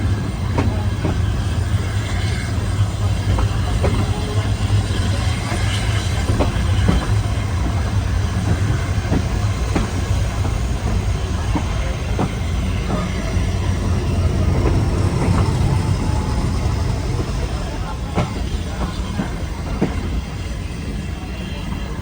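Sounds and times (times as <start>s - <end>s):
train rumbling: 0.0s - 22.0s
wheels clicking over rail joints: 2.7s - 20.6s.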